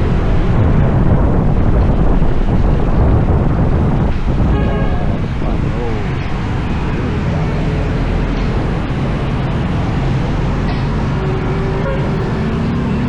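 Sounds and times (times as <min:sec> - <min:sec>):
road rumble: 0:00.0 - 0:13.0.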